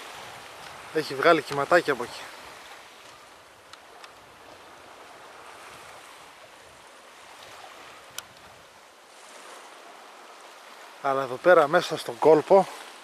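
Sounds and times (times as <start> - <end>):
gentle sea wash at shore: 0.0 - 13.0
light breeze: 0.0 - 13.0.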